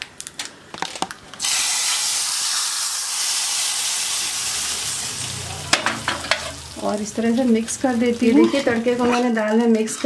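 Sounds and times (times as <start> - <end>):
hot ghee sizzling: 0.0 - 10.0.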